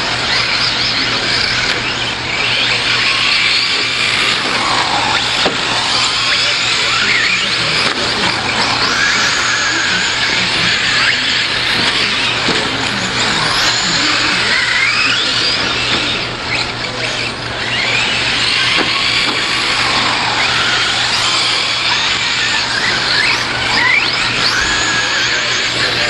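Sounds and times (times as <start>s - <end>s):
toy car motors whining: 0.0s - 26.0s.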